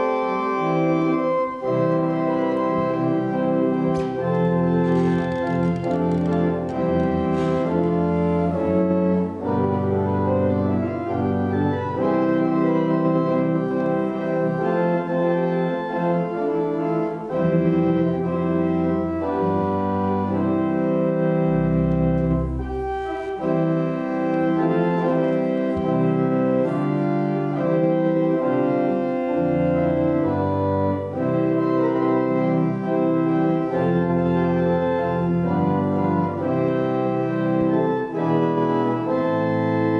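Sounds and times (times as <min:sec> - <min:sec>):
organ chords: 0:00.0 - 0:39.9.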